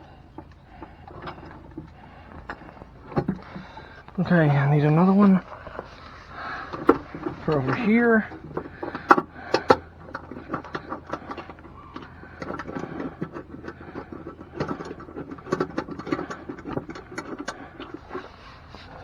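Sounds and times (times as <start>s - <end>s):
mounting hardware clicking and clinking: 0.0s - 18.8s.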